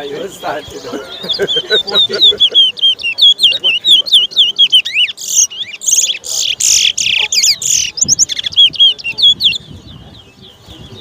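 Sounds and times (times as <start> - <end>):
finch song chirps: 0.0 - 11.0.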